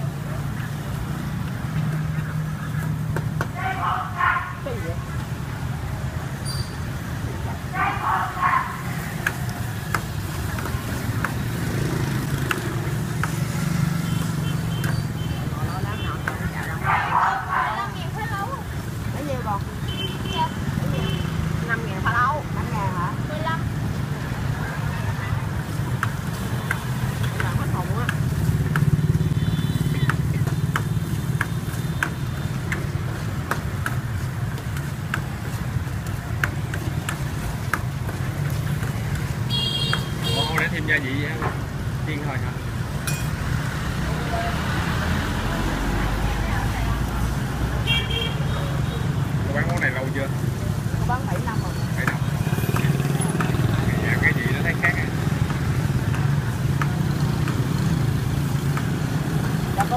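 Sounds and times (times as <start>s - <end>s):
street traffic rumble: 0.0s - 59.9s.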